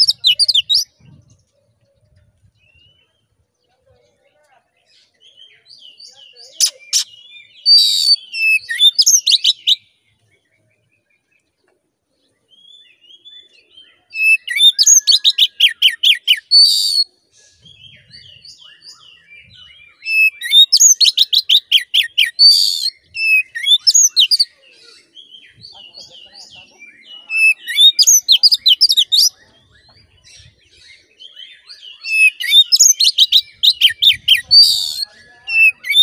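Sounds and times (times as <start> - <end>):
bird singing: 0.0 - 36.0.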